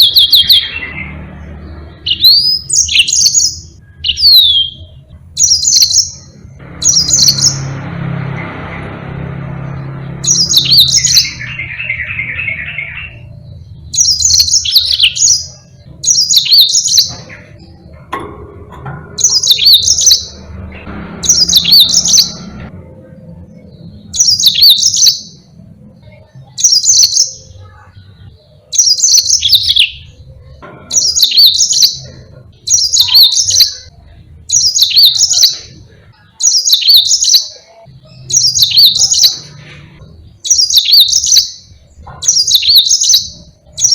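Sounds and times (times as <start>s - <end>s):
low rapid bird trill: 0.0s - 25.6s, 30.9s - 43.9s
canary warbling song: 0.0s - 43.9s.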